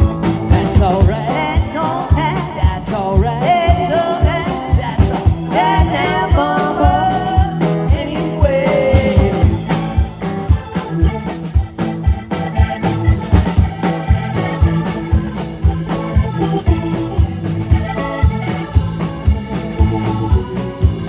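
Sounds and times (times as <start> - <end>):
bass: 0.0 - 21.0
electric guitar: 0.0 - 21.0
keyboard: 0.0 - 21.0.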